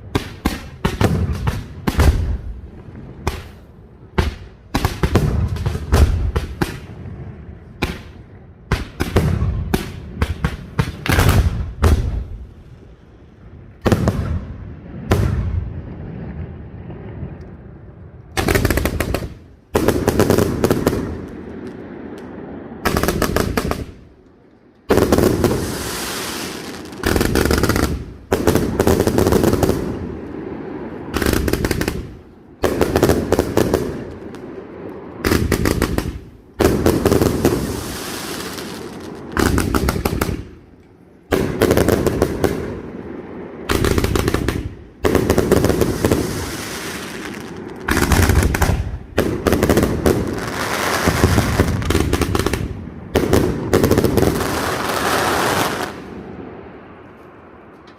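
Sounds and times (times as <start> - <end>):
fireworks cracking bangs: 0.0 - 12.7, 13.8 - 17.7, 18.3 - 56.6.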